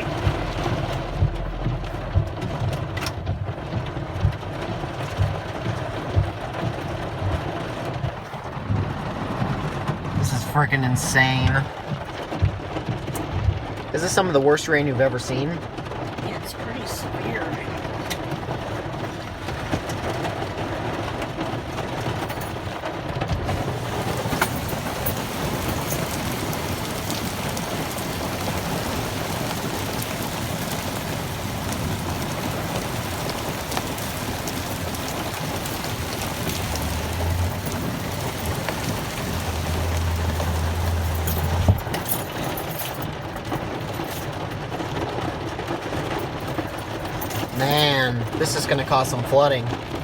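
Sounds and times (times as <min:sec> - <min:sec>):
torrential rain: 0:00.0 - 0:50.0.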